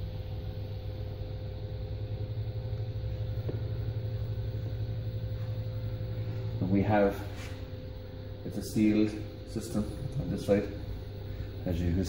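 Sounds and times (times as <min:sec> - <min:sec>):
circulating pumps humming: 0:00.0 - 0:12.0.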